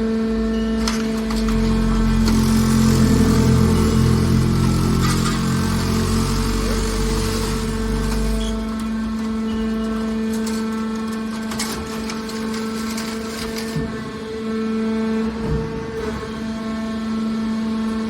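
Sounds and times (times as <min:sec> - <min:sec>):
baler pump motor humming: 0:00.0 - 0:18.0.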